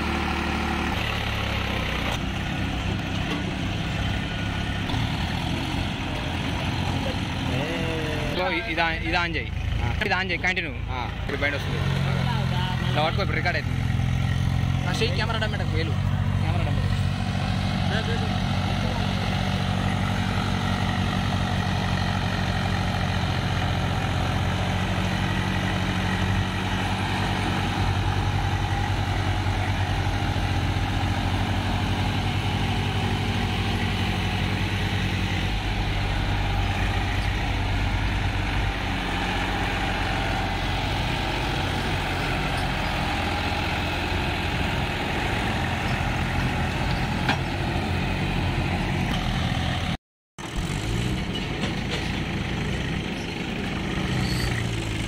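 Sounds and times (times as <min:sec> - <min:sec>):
diesel tractor engines running: 0:00.0 - 0:55.0.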